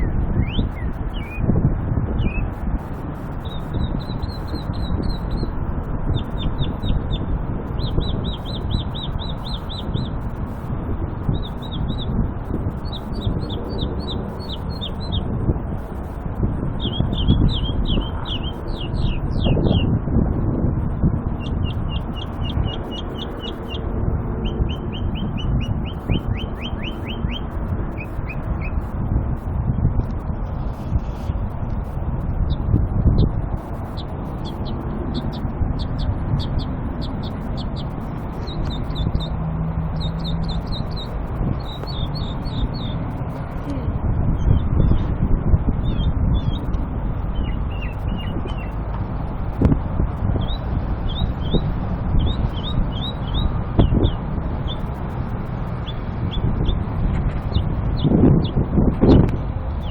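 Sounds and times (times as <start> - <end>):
songbird singing: 0.0 - 20.0, 20.8 - 29.5, 30.1 - 48.8, 49.8 - 59.9
low background rumble: 0.0 - 59.9.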